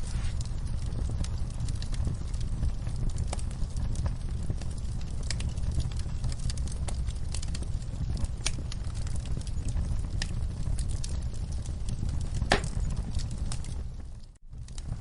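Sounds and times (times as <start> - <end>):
burning logs crackling and popping: 0.0 - 15.0
fire flames rumbling: 0.0 - 15.0.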